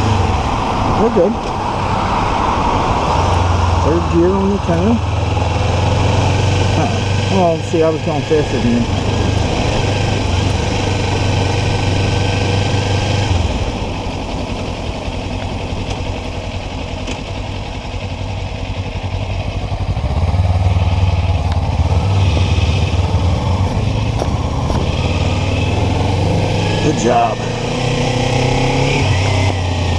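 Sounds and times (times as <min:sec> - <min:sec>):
motorcycle engine running: 0:02.7 - 0:29.9.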